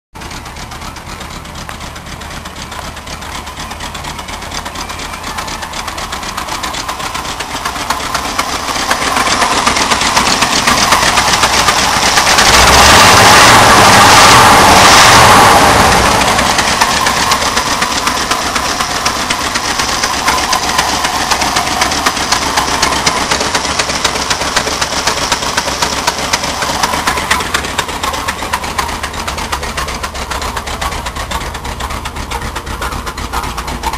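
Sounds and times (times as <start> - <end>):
truck engine with ticking exhaust: 0.1 - 33.9.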